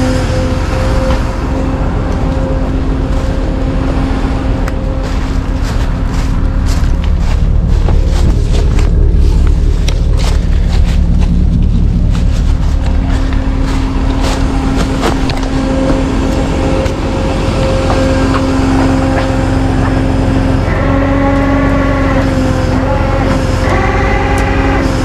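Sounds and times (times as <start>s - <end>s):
heavy vehicle engine running: 0.0s - 25.0s
high wavering tones: 0.0s - 25.0s
steady whine: 0.0s - 25.0s.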